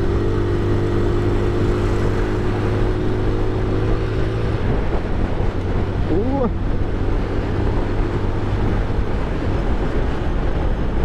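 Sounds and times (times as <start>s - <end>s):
motorcycle engine cruising: 0.0s - 11.0s
wind noise: 0.0s - 11.0s.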